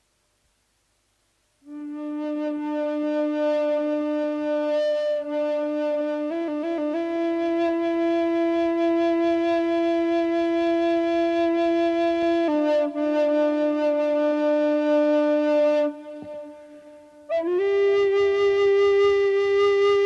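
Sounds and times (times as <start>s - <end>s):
solo wind instrument long notes: 1.6s - 20.0s.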